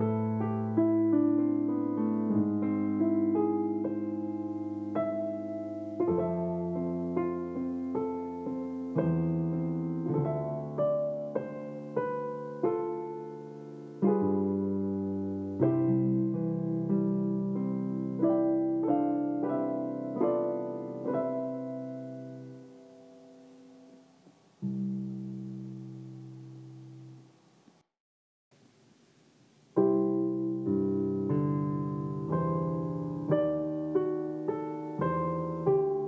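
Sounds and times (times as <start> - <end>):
slow solo piano tune: 0.0 - 27.4, 29.7 - 36.0.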